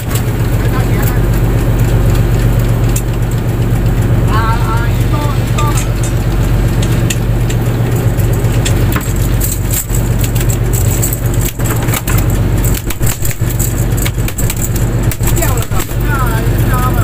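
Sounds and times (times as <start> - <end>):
boat engine running: 0.0 - 17.0
knocks and clatter: 0.0 - 17.0.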